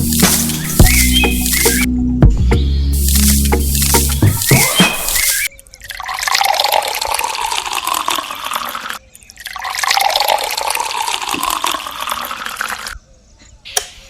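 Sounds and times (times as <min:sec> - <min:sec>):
water running and splashing: 0:00.0 - 0:01.9, 0:03.0 - 0:13.0.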